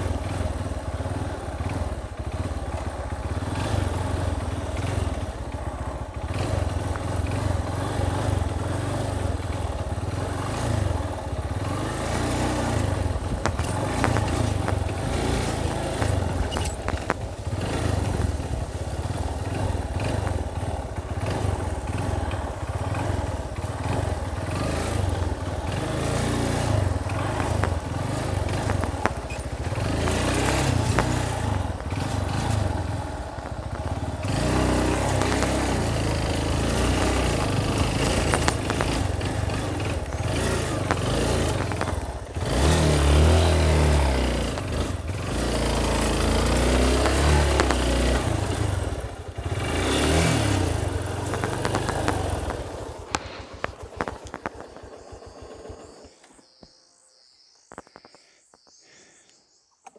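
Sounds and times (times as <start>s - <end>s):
bike rattling over bumps: 0.0s - 56.8s
motorcycle engine running: 0.0s - 56.8s.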